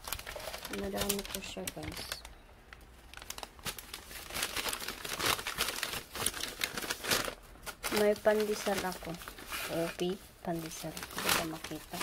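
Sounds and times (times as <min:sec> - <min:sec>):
paper bags rustling: 0:00.0 - 0:02.3, 0:03.0 - 0:12.0.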